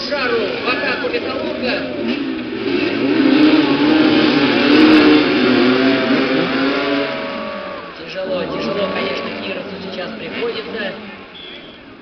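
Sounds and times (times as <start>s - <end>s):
motorcycles revving: 0.0s - 12.0s.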